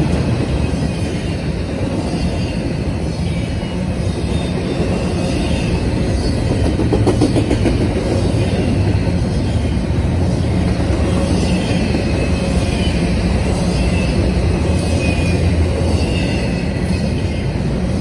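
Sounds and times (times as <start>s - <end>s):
freight train wheels rumbling on rail: 0.0s - 18.0s.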